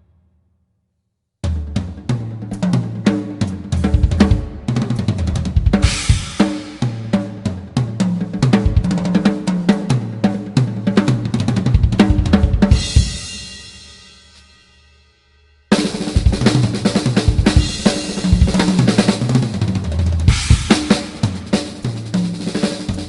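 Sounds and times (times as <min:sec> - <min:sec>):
drum kit playing: 0:01.4 - 0:14.9, 0:15.7 - 0:23.0.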